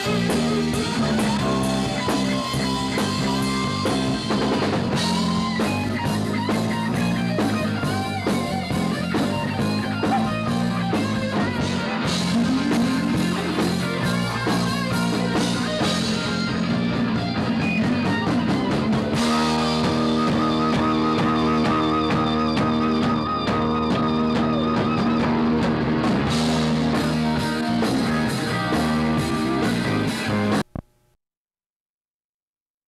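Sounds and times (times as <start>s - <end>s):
drum kit beat: 0.0s - 30.8s
distorted electric guitar chords: 0.0s - 30.9s.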